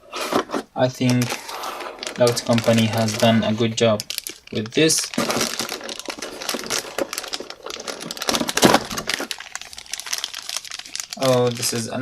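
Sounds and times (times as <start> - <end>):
packaging rustling and crinkling: 0.2 - 12.0.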